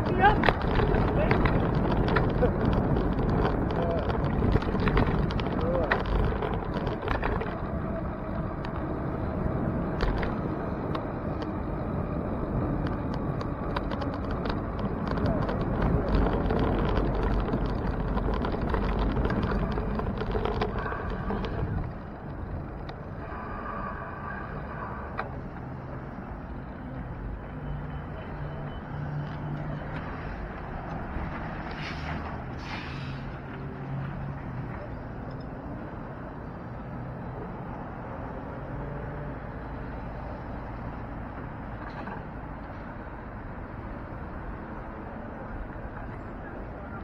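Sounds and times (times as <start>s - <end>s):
low vehicle engine hum: 0.0s - 47.0s
wind and road noise rumble: 0.0s - 47.0s.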